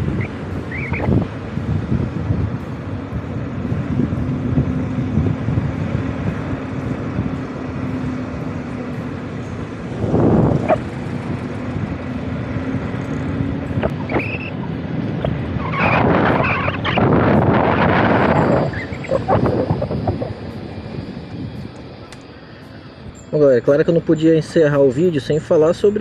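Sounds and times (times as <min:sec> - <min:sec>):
electric motorcycle hum: 0:00.0 - 0:26.0
road and wind noise: 0:00.0 - 0:26.0.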